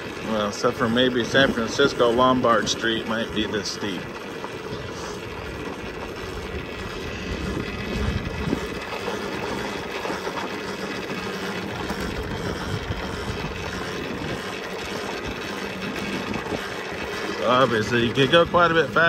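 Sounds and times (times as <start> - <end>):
faint motor hum: 0.0 - 19.0.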